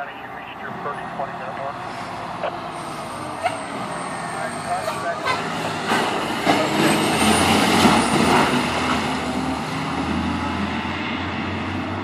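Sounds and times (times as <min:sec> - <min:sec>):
fire engine driving past: 0:00.0 - 0:12.0.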